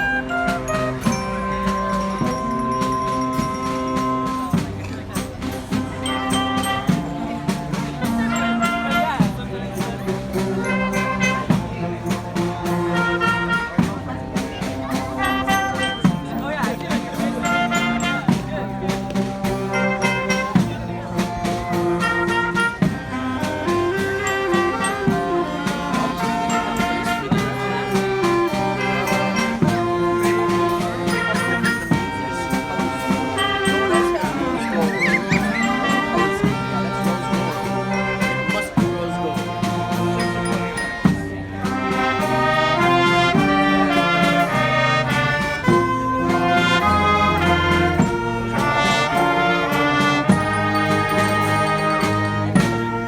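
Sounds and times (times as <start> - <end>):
drums keeping a steady beat: 0.0 - 53.0
horns playing together: 0.0 - 53.0.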